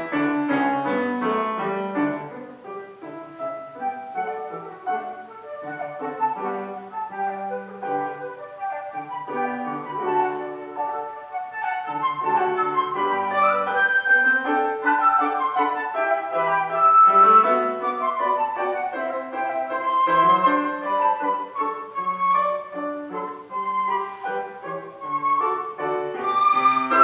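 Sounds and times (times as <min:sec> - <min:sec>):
classical solo instrument: 0:00.0 - 0:27.0
piano accompaniment: 0:00.0 - 0:27.0.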